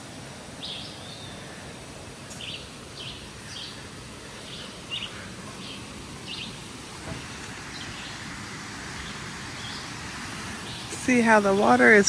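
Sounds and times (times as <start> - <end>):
flowing river water: 0.0 - 12.0
bird chirping: 0.6 - 1.6, 2.2 - 11.6.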